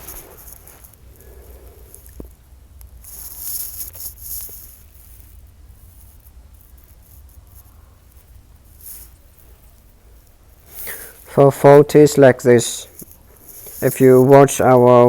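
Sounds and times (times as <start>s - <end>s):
high scratchy hiss: 0.0s - 15.0s
low hum of heating equipment: 0.0s - 15.0s.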